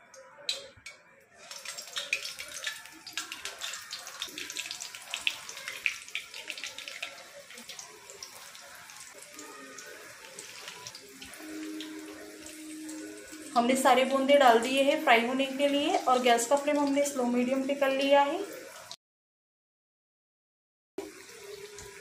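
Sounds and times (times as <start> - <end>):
batter sizzling in hot oil: 1.3 - 19.0, 21.0 - 22.0.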